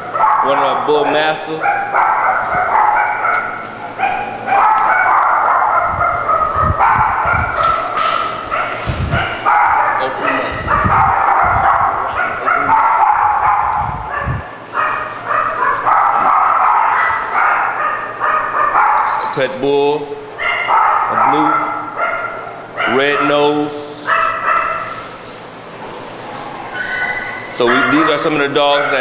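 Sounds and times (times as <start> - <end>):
dogs barking and yipping: 0.0 - 29.0.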